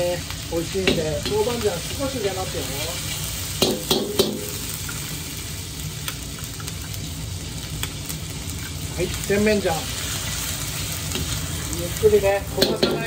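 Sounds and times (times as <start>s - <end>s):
garlic sizzling in a wok: 0.0s - 13.0s.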